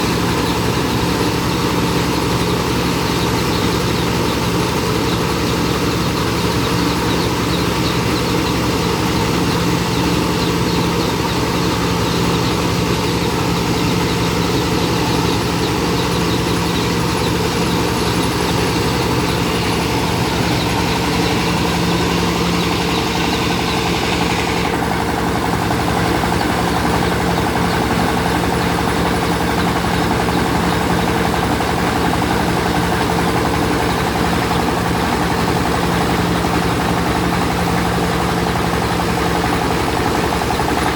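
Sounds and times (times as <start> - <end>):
rice milling machine humming: 0.0 - 40.9.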